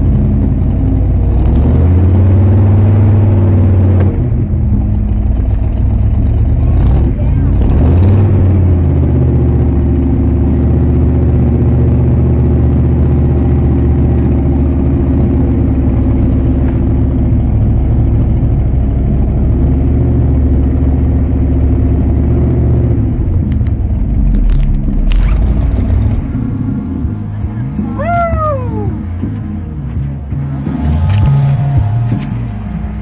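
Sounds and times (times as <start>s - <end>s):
truck engine under load: 0.0s - 33.0s.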